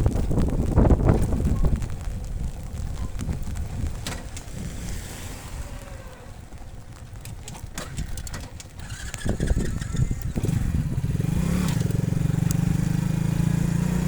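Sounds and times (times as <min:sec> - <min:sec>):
motorcycle engine running: 0:00.0 - 0:14.0
wind buffeting microphone: 0:00.0 - 0:14.0.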